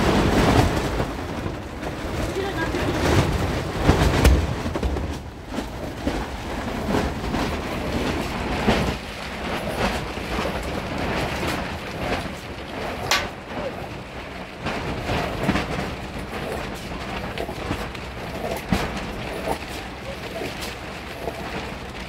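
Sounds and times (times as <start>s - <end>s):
storm rumbling rush: 0.0s - 22.0s.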